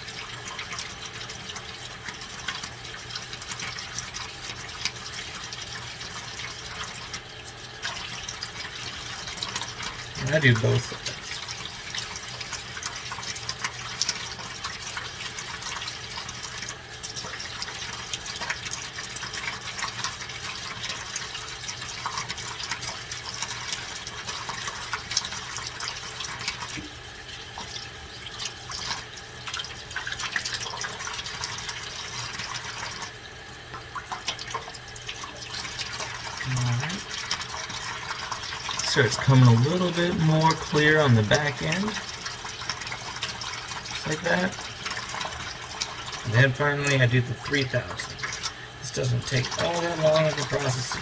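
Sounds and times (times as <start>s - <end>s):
tap water running into sink: 0.0s - 51.0s.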